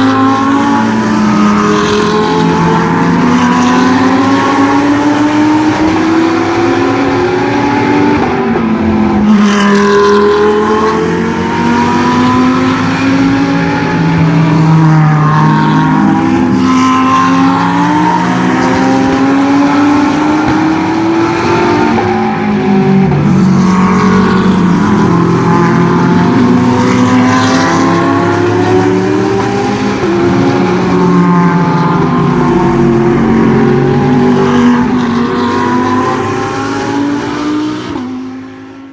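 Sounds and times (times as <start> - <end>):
race car engines revving past: 0.0 - 38.9.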